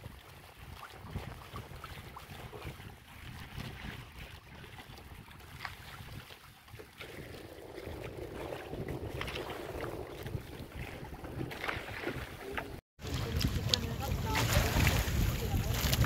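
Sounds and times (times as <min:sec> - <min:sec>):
water splashing against hull: 0:00.0 - 0:16.0
wind buffeting microphone: 0:00.0 - 0:16.0.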